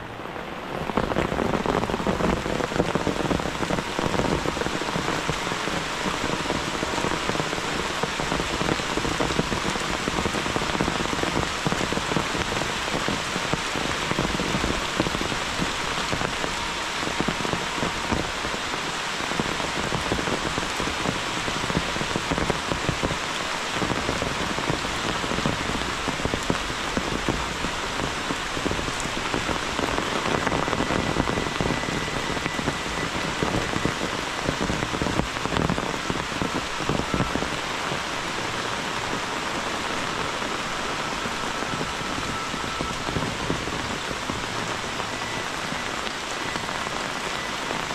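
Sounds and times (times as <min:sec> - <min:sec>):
rain pattering on leaves: 0:00.0 - 0:47.9.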